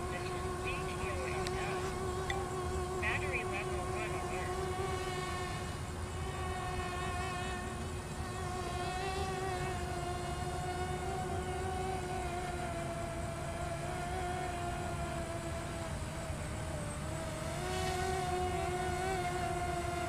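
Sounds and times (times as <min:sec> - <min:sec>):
propeller whine: 0:00.0 - 0:20.0.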